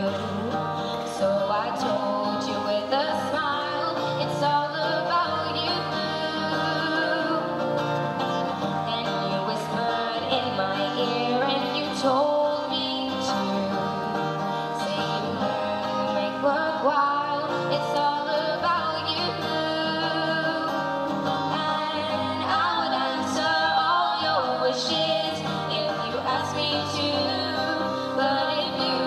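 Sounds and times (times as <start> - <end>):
acoustic guitar: 0.0 - 29.0
girl singing pop ballad: 0.0 - 29.0.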